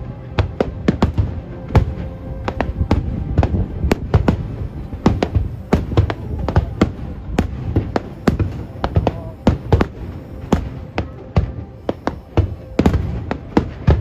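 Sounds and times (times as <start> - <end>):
fireworks shells bursting: 0.6 - 14.0.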